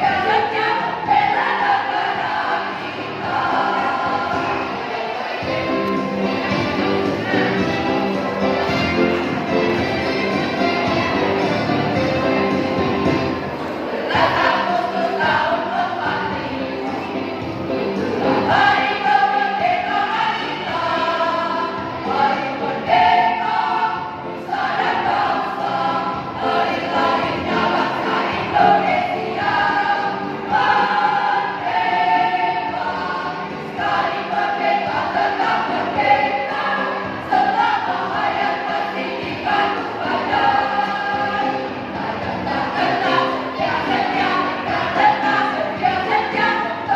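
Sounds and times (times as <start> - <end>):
women's choir singing: 0.0 - 46.9.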